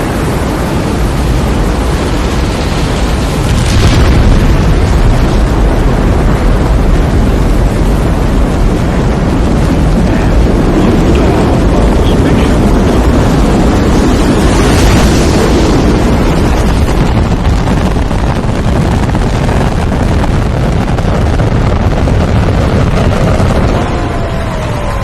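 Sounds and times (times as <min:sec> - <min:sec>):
rocket engines rumbling: 0:00.0 - 0:25.0.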